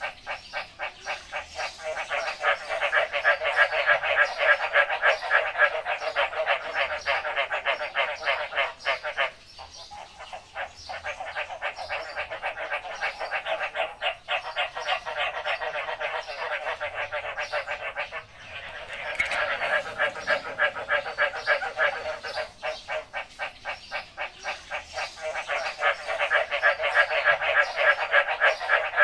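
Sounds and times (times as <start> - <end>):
frogs calling: 0.0 - 29.0.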